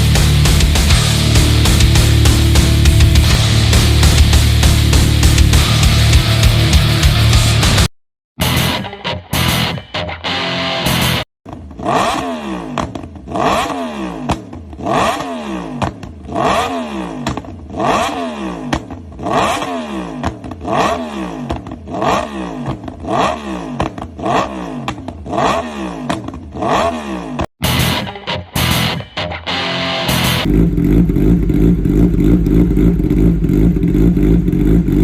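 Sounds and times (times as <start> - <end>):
motorcycle engine revving: 0.0 - 7.9, 10.8 - 28.0, 28.6 - 35.0.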